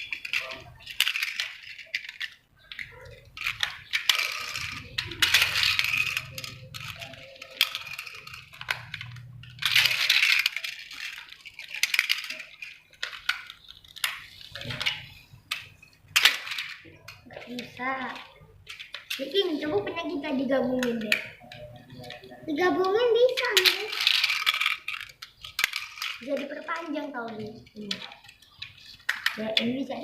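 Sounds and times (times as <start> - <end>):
plastic rattling: 0.0 - 30.0.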